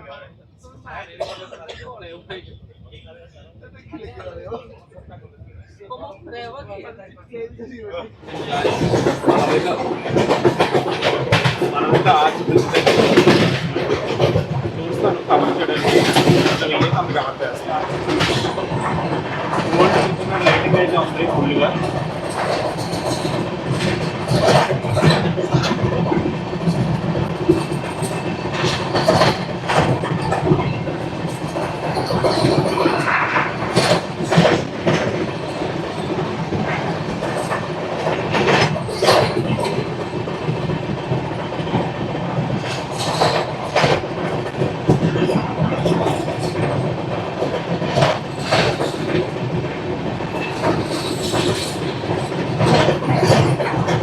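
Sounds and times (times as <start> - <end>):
train rumble: 0.0 - 54.0
wheels clacking over rails: 8.3 - 54.0.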